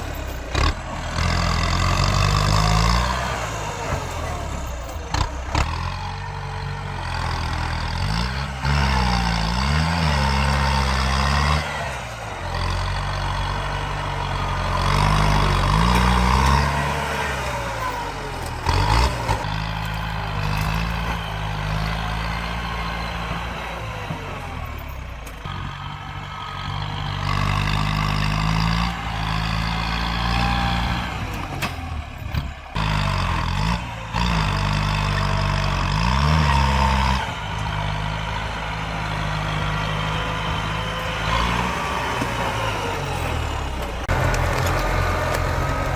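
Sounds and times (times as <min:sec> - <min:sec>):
tractor diesel engine revving: 0:00.0 - 0:45.9.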